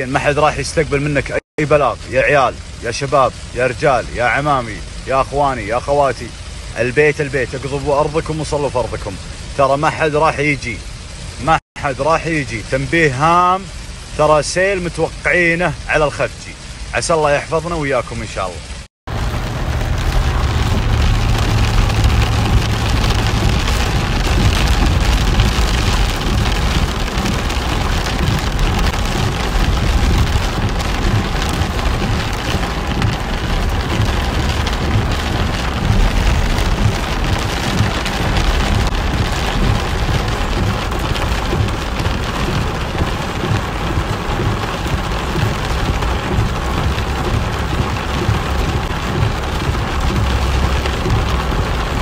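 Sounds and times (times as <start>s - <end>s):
car rumbling on wet road: 0.0s - 52.0s
heavy rain on car roof: 0.0s - 52.0s.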